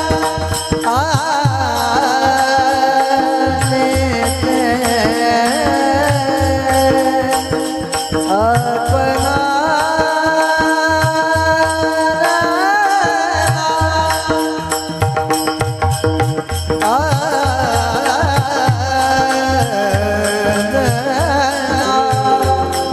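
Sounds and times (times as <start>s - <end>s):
devotional singing: 0.0s - 15.6s, 16.8s - 22.9s
held accompanying notes: 0.0s - 22.9s.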